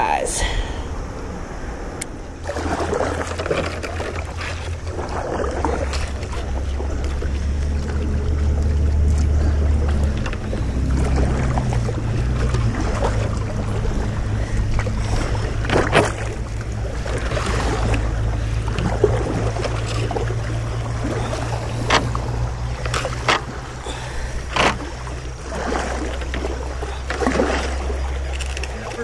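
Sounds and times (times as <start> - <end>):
river water low rumble: 0.0 - 29.0
paddle splashes: 2.2 - 29.0.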